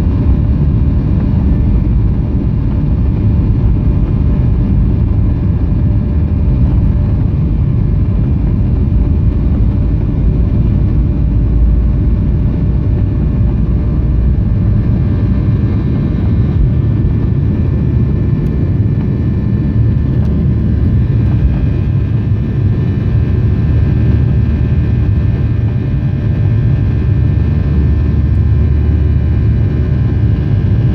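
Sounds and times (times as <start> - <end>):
jet engines at high thrust: 0.0 - 30.9.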